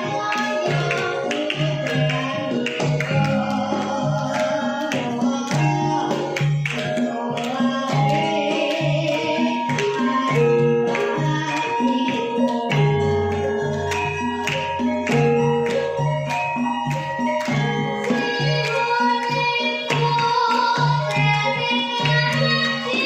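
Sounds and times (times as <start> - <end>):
girl singing: 0.0 - 13.3, 17.5 - 23.0
ringing metallophone notes: 0.0 - 23.0.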